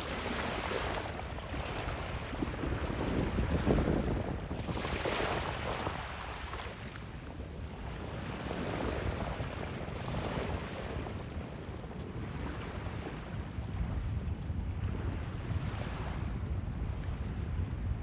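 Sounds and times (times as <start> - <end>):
waves washing onto beach: 0.0 - 18.0
wind on microphone: 0.0 - 18.0.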